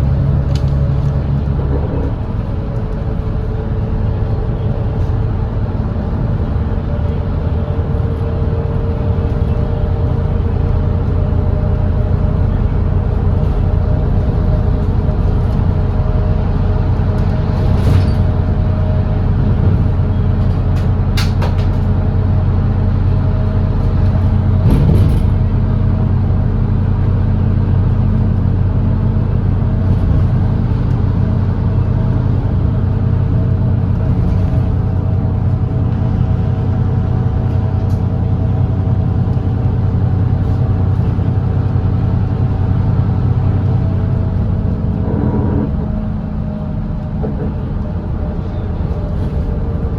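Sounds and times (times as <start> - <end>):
bus diesel engine humming: 0.0 - 49.9.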